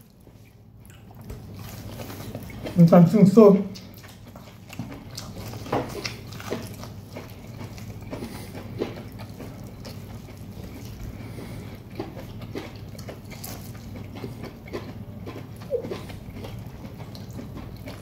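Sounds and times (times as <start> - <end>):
person chewing corn: 0.0 - 18.0
steady low hum: 0.0 - 18.0.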